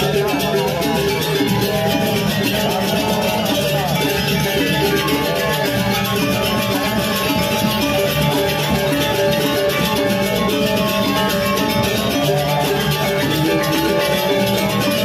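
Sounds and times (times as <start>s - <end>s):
rapid percussion: 0.0s - 15.0s.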